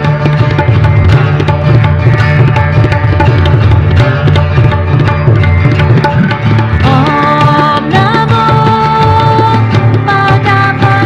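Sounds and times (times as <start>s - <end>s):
tabla drumming: 0.0s - 11.0s.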